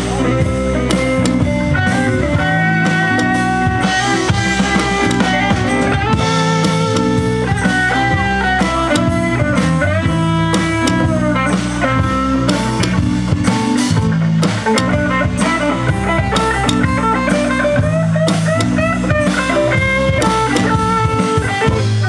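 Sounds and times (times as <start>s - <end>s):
blues-rock band playing: 0.0s - 22.0s
electric guitar lead lines: 0.0s - 22.0s.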